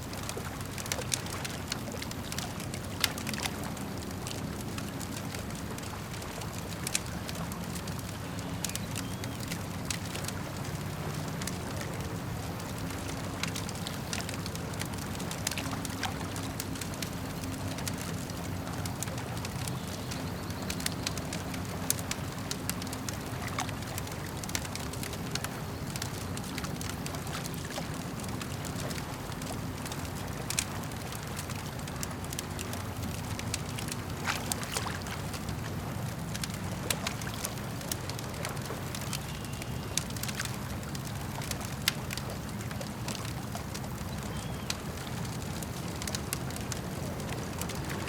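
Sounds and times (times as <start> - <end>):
campfire crackling and popping: 0.0 - 48.0
lake water lapping: 0.0 - 48.0.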